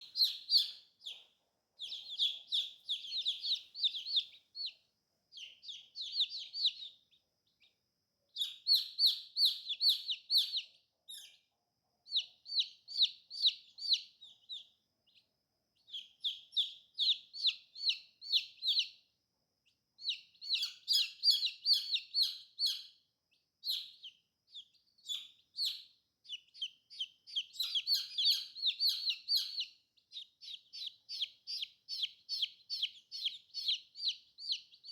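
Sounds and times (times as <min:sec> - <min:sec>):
baby chicks peeping: 0:00.0 - 0:34.9.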